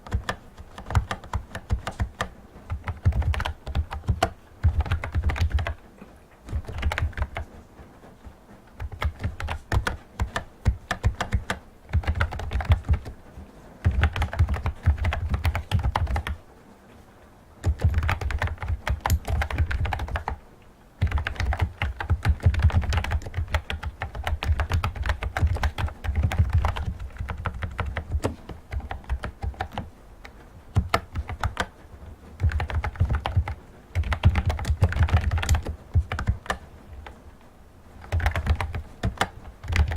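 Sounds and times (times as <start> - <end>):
keyboard key clicks typing: 0.0 - 5.8, 6.5 - 7.5, 8.7 - 13.2, 13.8 - 16.4, 17.6 - 20.4, 21.0 - 37.2, 38.0 - 39.9.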